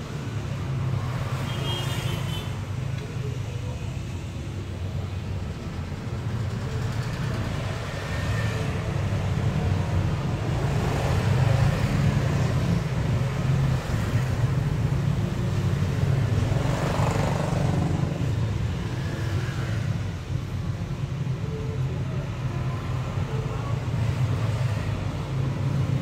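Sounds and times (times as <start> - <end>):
motorcycle and car engines rumbling: 2.5 - 26.0.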